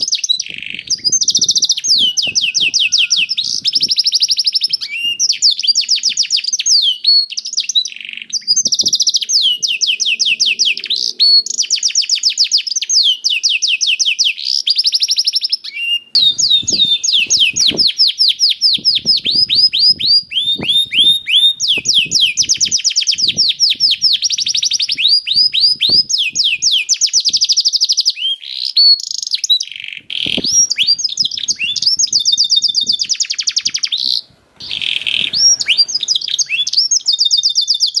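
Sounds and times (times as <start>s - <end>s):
canary singing trills: 0.0s - 38.0s.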